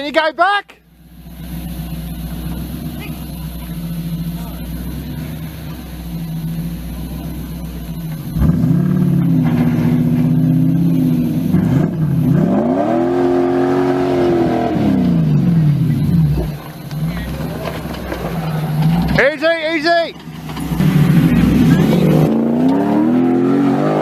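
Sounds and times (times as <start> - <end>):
vehicle engine revving: 0.9 - 24.0.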